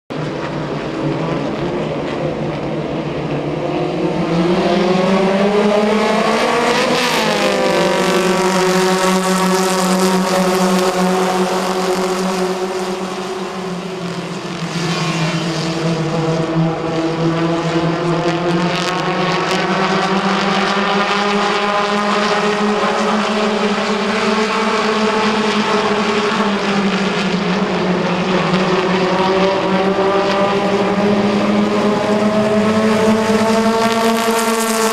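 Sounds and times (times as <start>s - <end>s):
racing car engines: 0.1s - 34.9s.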